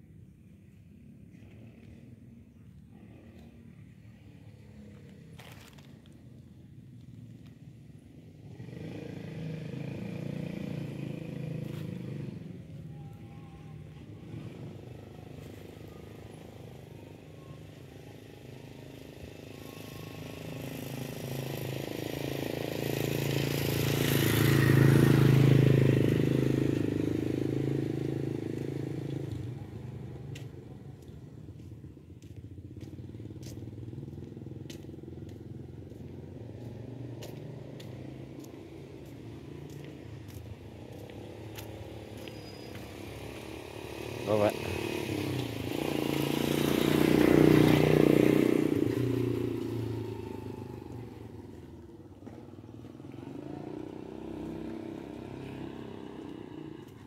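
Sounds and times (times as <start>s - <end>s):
vehicle engine passing by: 8.2s - 57.0s.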